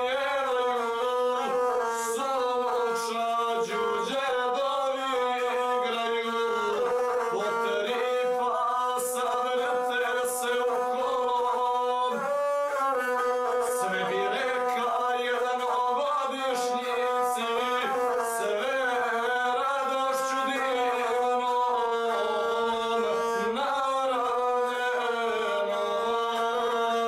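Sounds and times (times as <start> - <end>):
bowed single-string fiddle: 0.0 - 27.0
man singing: 0.0 - 27.0.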